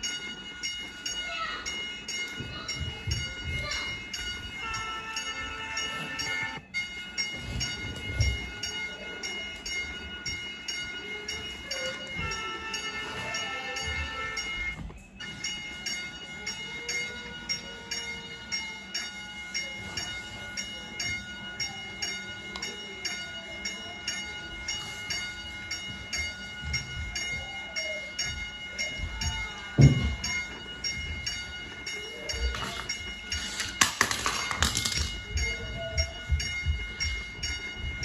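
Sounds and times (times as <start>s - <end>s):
steady train-like tones: 0.0s - 38.0s
toy crossing bell ringing: 0.0s - 38.0s.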